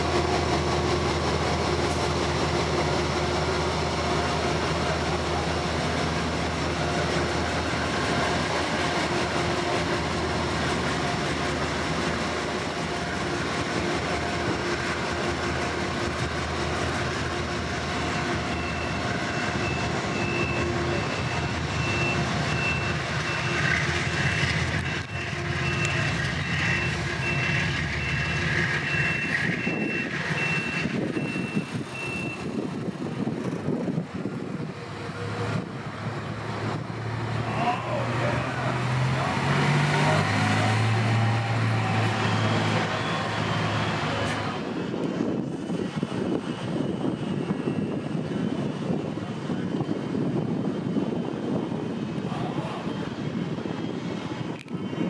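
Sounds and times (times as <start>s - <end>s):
locomotive engine droning: 0.0s - 55.0s.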